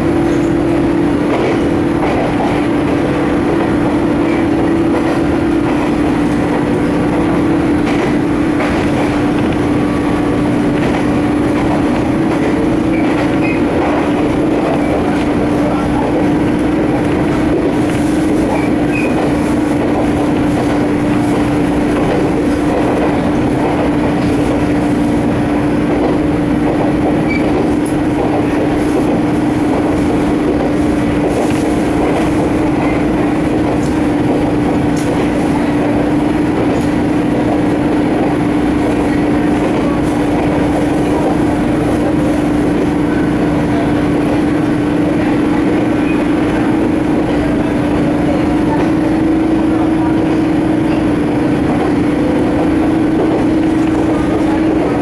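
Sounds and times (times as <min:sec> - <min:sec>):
constant train hum: 0:00.0 - 0:55.0
train wheels rumbling: 0:00.0 - 0:55.0.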